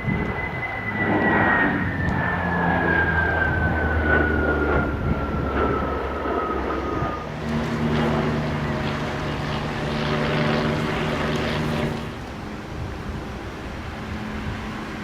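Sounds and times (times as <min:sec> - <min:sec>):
aircraft engine whine passing: 0:00.0 - 0:15.0
low engine drone: 0:00.0 - 0:15.0.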